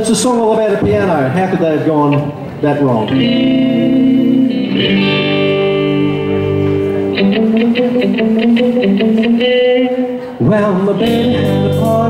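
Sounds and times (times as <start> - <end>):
electric guitar chords: 2.1 - 12.0.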